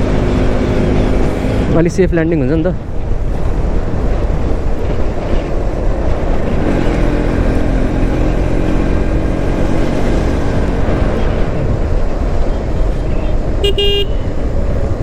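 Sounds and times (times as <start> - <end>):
motorcycle engine running: 0.0 - 1.9, 4.9 - 15.0
wind rumble on microphone: 0.0 - 15.0.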